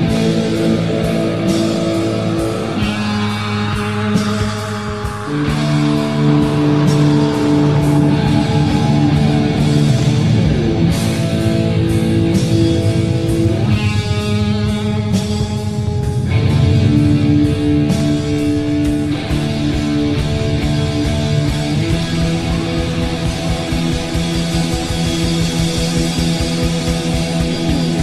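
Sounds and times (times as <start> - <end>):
drum kit: 0.0 - 28.0
electric guitars: 0.0 - 28.0.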